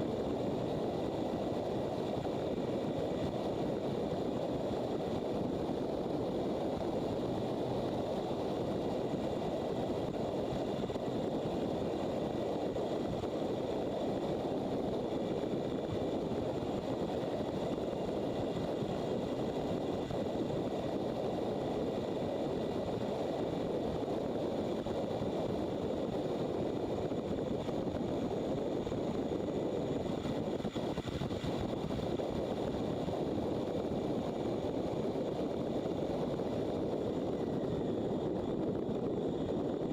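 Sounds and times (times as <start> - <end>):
wind rush over microphone: 0.0 - 39.9.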